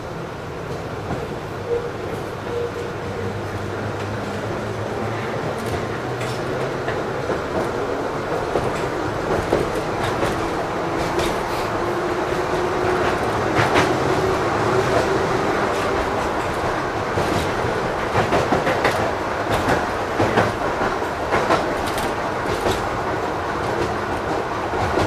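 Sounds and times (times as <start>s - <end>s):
tram wheels clacking over rail joints: 0.1s - 25.0s.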